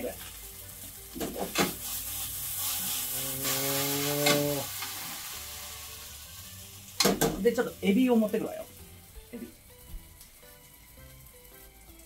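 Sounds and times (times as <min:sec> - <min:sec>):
noodles sizzling in frying pan: 0:00.0 - 0:12.0.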